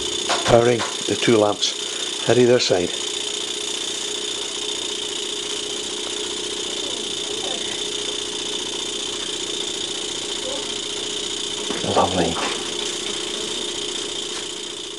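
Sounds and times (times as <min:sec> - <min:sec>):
boiler hissing: 0:00.0 - 0:14.9
steam engine humming: 0:00.0 - 0:14.9.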